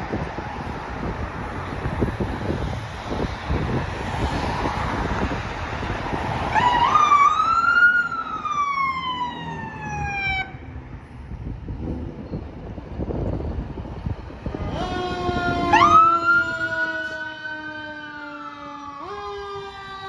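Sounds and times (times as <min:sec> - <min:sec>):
fire engine siren wail: 0:00.0 - 0:11.0, 0:12.6 - 0:20.0
vehicle engine and road noise: 0:00.0 - 0:20.0.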